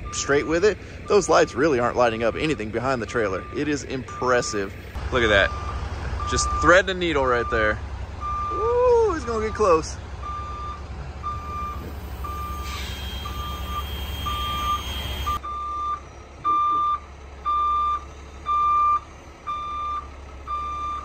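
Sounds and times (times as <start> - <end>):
diesel engine running: 0.0 - 21.0
truck reversing alarm beeping: 0.0 - 21.0.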